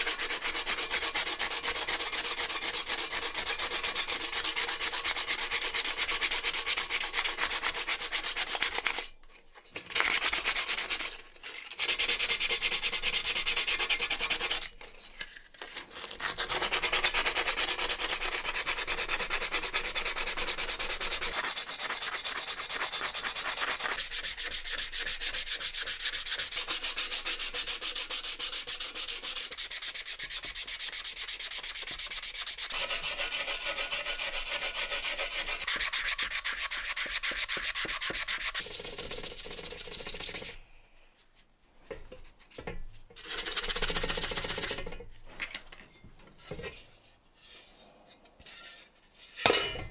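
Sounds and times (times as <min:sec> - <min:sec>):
sandpaper scratching on metal: 0:00.0 - 0:09.1, 0:10.0 - 0:14.8, 0:15.9 - 0:40.6, 0:43.2 - 0:44.8.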